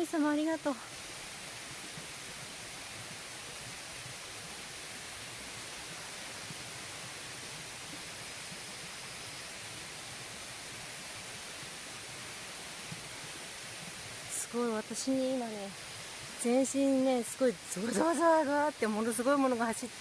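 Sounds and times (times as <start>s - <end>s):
waterfall and stream rushing: 0.0s - 20.0s.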